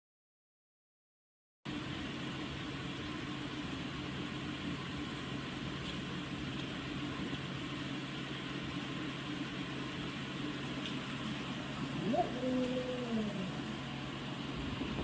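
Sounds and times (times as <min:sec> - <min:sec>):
air conditioner running: 0:01.7 - 0:15.0.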